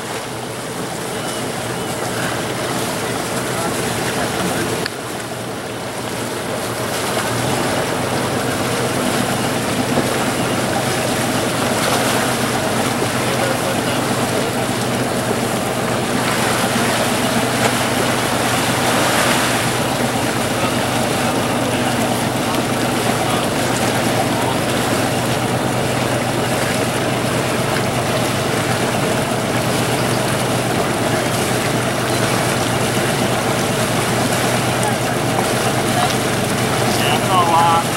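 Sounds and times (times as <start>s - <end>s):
low engine hum: 0.0s - 37.9s
wind and water rushing: 0.0s - 37.9s.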